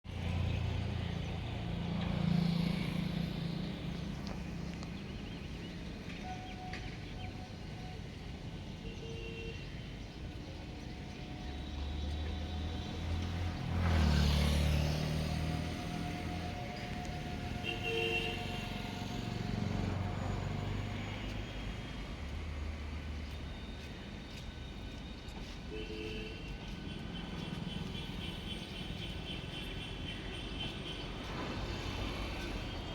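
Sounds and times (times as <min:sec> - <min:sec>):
train engine drone: 0:00.1 - 0:08.9, 0:09.7 - 0:32.9.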